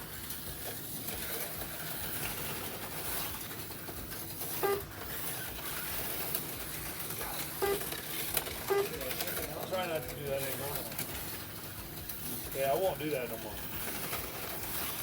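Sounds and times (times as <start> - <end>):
slot car motors whirring: 0.0 - 15.0.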